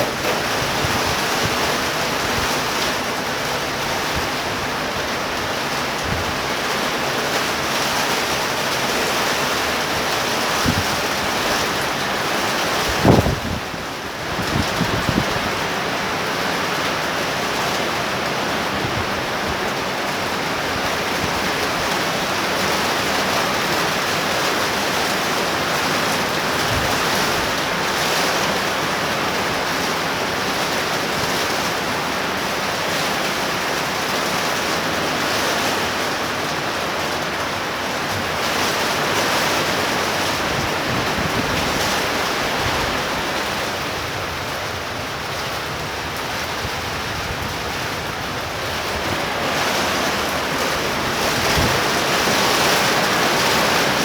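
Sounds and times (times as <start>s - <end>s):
torrential rain pouring: 0.0s - 54.0s.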